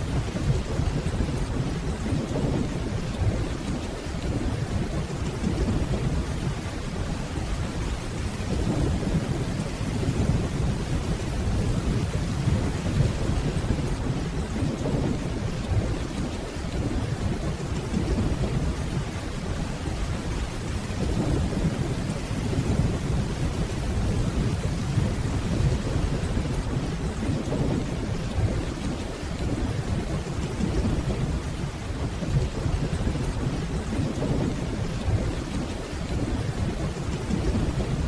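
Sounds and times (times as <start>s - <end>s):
distant rolling thunder: 0.0s - 38.0s
steady rainfall: 0.0s - 38.0s.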